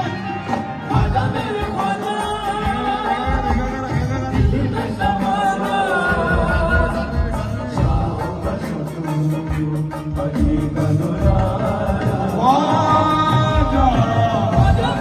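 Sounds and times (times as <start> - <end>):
low drum beats: 0.0 - 15.0
person singing: 0.0 - 15.0.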